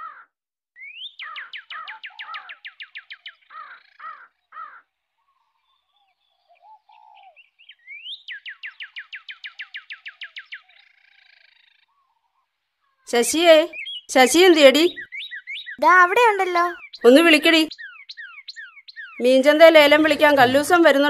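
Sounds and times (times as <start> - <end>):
lower arched bird calls: 0.0 - 21.0.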